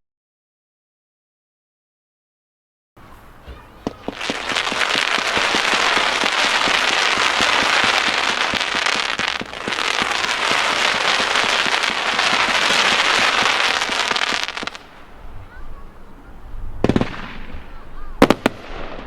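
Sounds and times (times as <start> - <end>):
firework cake firing volleys: 3.0 - 19.0.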